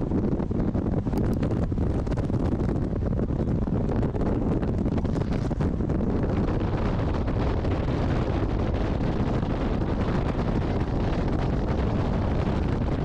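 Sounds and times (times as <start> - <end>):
car road noise at speed: 0.0 - 13.0
wind buffeting microphone: 0.0 - 13.0.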